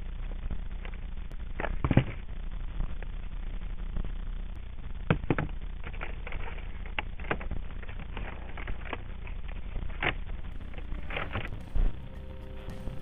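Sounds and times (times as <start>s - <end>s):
low rumble on microphone: 0.0s - 13.0s.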